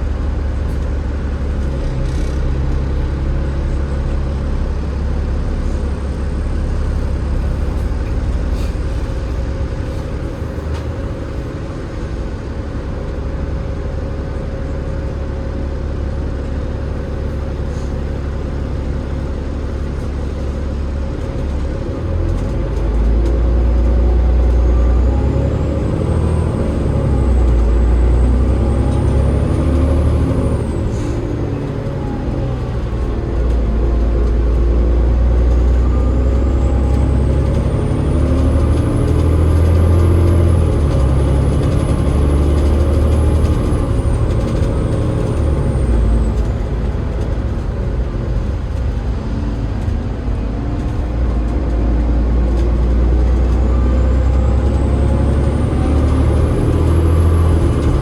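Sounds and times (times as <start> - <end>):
diesel bus engine rumbling: 0.0 - 58.0.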